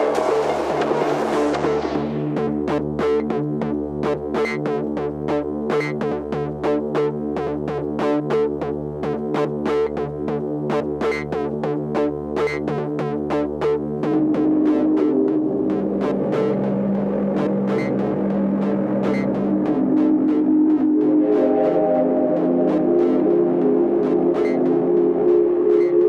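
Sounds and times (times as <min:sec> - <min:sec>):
sequenced plucked synth notes: 0:00.0 - 0:26.0
synthesizer drone chord: 0:00.0 - 0:26.0.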